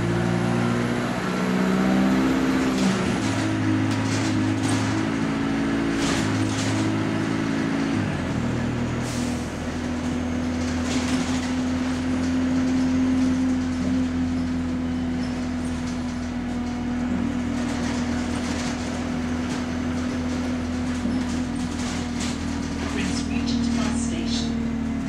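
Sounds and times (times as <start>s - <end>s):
bus engine droning: 0.0s - 25.0s
road rumble: 0.0s - 25.0s.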